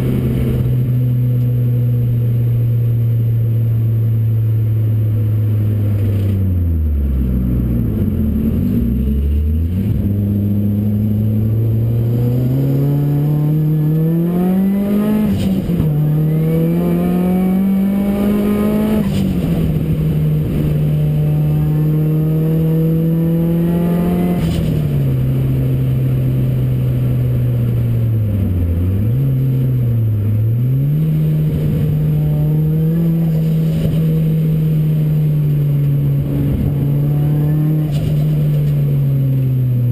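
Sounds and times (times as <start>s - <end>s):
car engine accelerating and upshifting: 0.0s - 39.9s.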